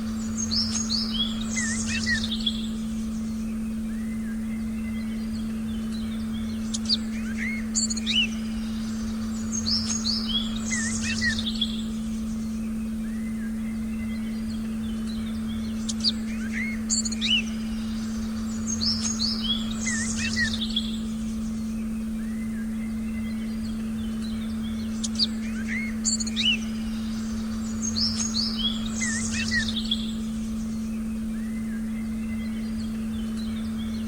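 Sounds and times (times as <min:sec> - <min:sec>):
birds chirping and singing: 0:00.0 - 0:34.0
steady low electronic tone: 0:00.0 - 0:34.0.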